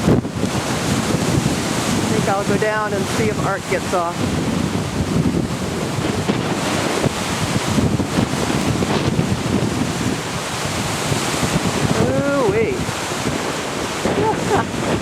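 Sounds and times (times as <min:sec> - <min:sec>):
rough waves washing: 0:00.0 - 0:15.0
wind buffeting microphone: 0:00.0 - 0:15.0.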